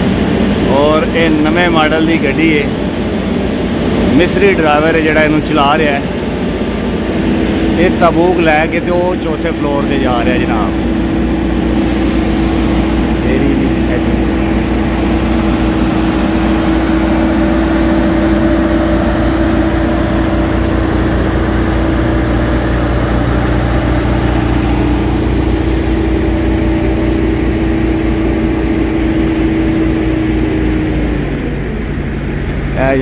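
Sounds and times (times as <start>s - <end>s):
constant tone: 0.0s - 33.0s
diesel engine running: 0.0s - 33.0s.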